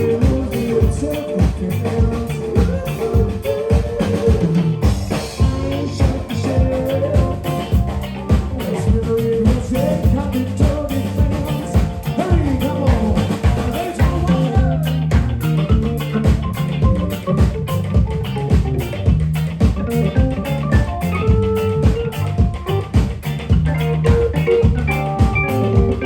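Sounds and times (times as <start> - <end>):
bass line: 0.0 - 26.0
drum kit beat: 0.0 - 26.0
live band playing: 0.0 - 26.0.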